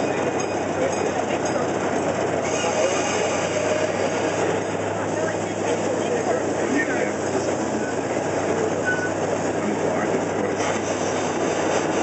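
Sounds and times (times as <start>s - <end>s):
train cars rumbling and rattling: 0.0s - 12.0s.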